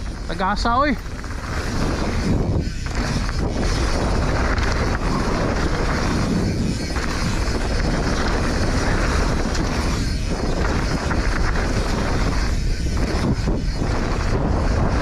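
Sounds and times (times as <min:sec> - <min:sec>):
bike rolling on dirt trail: 0:00.0 - 0:15.0
wind buffeting microphone: 0:00.0 - 0:15.0.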